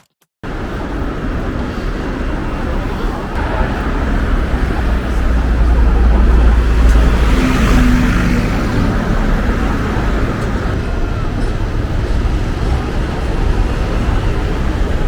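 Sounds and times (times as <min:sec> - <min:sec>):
street traffic rumble: 0:00.4 - 0:15.0.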